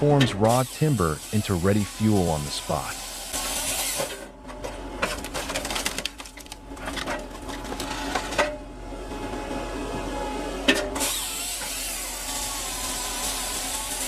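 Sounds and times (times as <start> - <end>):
wood-processing machinery humming: 0.0 - 14.0.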